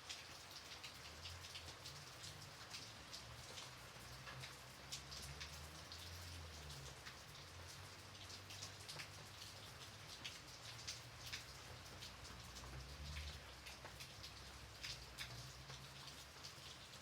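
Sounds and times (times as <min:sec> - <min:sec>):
gentle rain with drops: 0:00.0 - 0:17.0.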